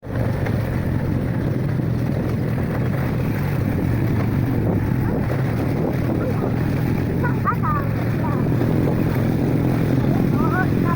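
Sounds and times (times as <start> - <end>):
engine humming: 0.0 - 10.9
wind noise on microphone: 0.1 - 10.9.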